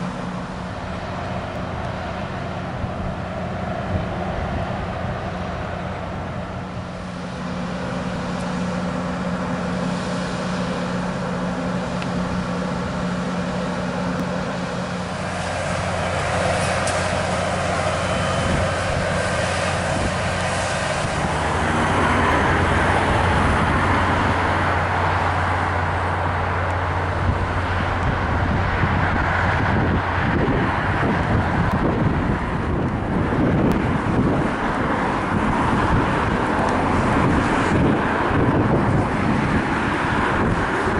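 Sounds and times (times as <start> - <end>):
diesel engine idling: 0.0 - 40.9
loud rushing noise: 0.0 - 40.9.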